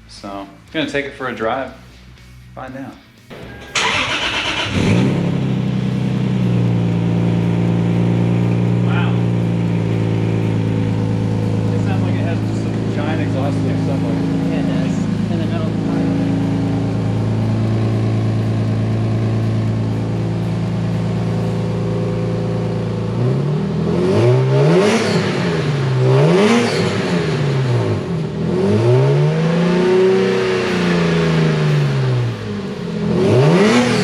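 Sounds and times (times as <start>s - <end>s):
car engine revving: 3.4s - 34.0s.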